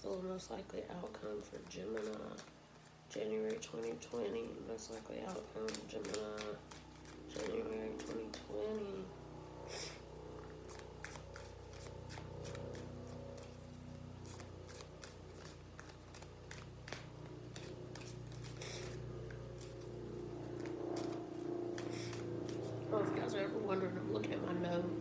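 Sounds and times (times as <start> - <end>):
low steady hum: 0.0 - 25.0
cards being shuffled: 0.1 - 22.9.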